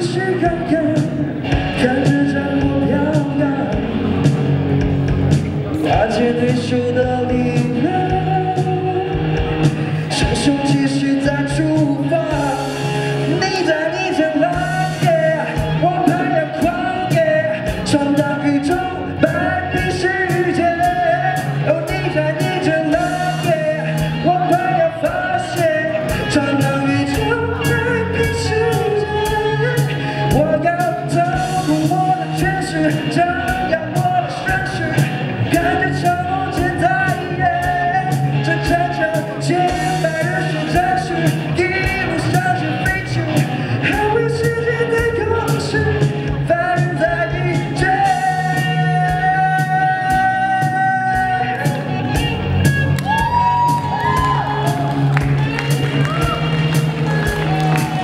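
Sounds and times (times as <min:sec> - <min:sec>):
man singing: 0:00.0 - 0:04.4, 0:05.7 - 0:52.4
bass guitar: 0:00.0 - 0:58.0
electric guitars: 0:00.0 - 0:58.0.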